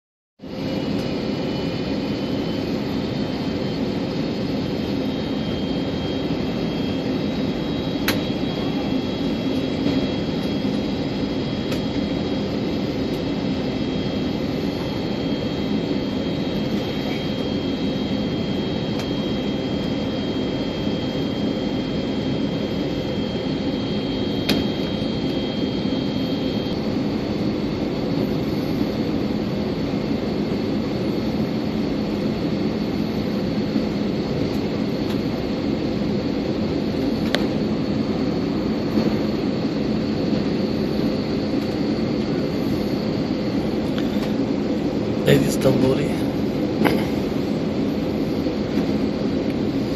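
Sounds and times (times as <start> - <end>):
jet airliner cabin drone: 0.4 - 49.9.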